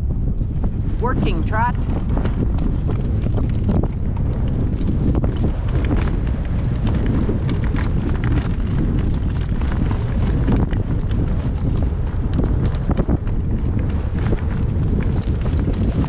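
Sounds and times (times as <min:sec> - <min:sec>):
horse hooves clip-clop: 0:00.0 - 0:16.0
wind buffeting microphone: 0:00.0 - 0:16.0.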